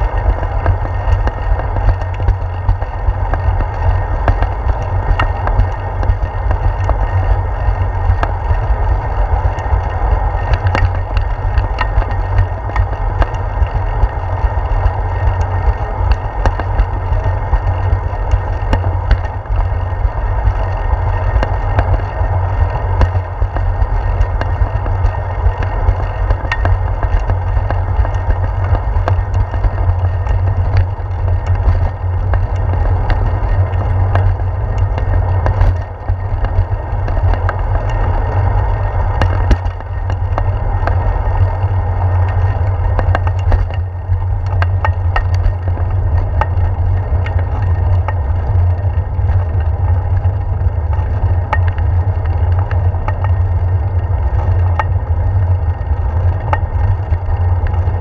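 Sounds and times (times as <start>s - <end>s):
bike clicks and rattles: 0.0s - 58.0s
tyre noise on concrete: 0.0s - 58.0s
wind rumble on microphone: 0.0s - 58.0s.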